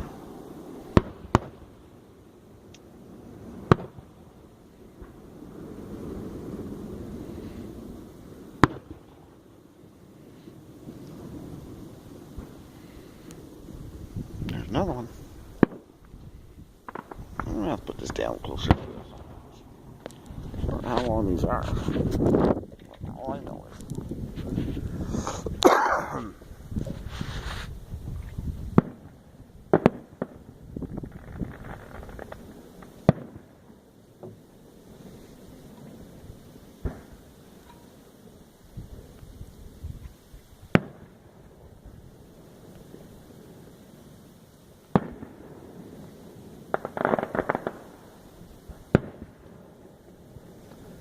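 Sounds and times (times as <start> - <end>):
sharp firework reports: 0.0 - 2.1, 2.9 - 51.0
firework burst: 0.0 - 51.0.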